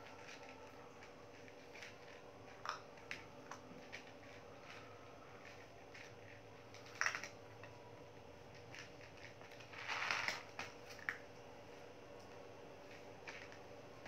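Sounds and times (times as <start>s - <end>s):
puppy crunching food: 0.0s - 11.4s.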